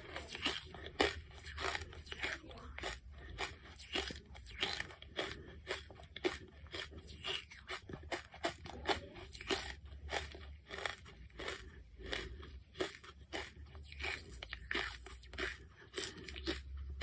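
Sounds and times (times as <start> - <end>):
charcoal crunching being chewed: 0.0 - 17.0.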